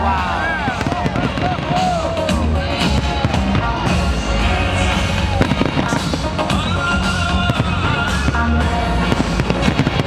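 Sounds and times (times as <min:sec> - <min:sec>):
fireworks bangs and crackles: 0:00.0 - 0:10.0
loud pop music: 0:00.0 - 0:10.0.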